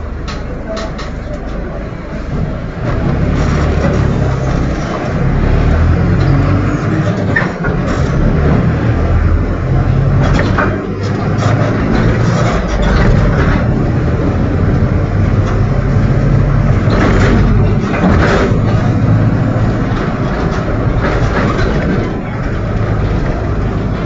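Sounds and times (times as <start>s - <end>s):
bus drivetrain hum: 0.0s - 24.0s.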